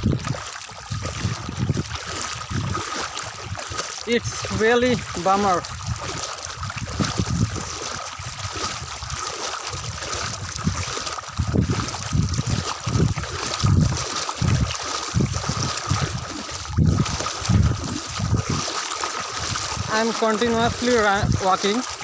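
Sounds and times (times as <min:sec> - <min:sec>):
footsteps wading through water: 0:00.0 - 0:22.0.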